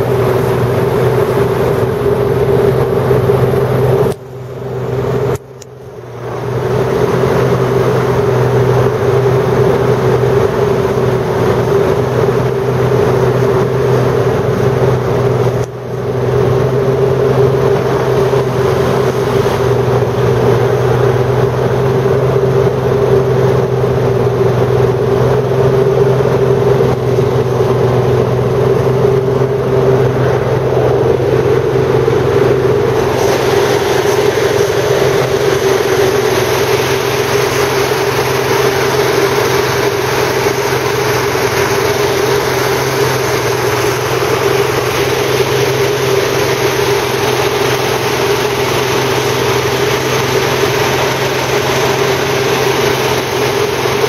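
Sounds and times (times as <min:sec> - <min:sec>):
hovercraft engine droning: 0:00.0 - 0:54.0.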